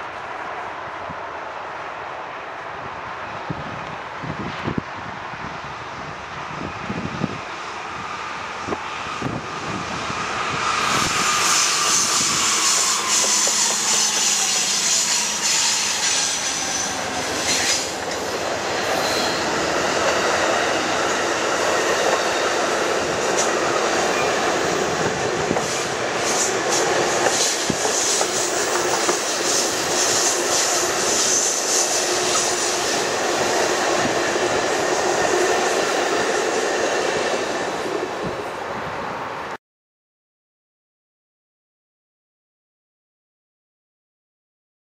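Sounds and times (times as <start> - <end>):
train wheels on rails: 0.0 - 39.5
diesel locomotives passing: 0.0 - 39.6.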